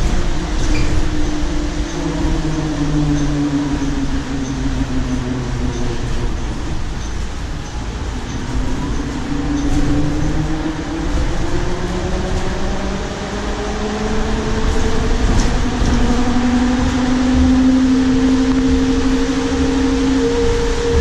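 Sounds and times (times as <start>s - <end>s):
electric bus motor whining: 0.0s - 21.0s
road rumble: 0.0s - 21.0s.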